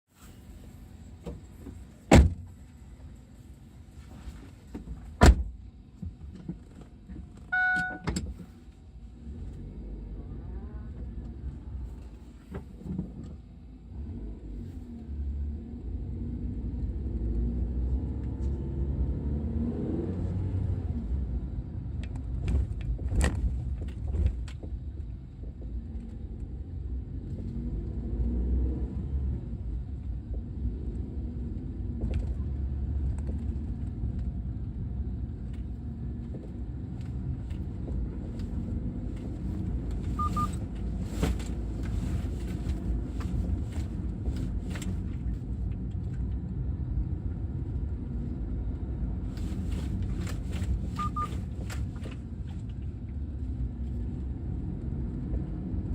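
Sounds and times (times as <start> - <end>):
road rumble inside car: 0.1 - 55.9.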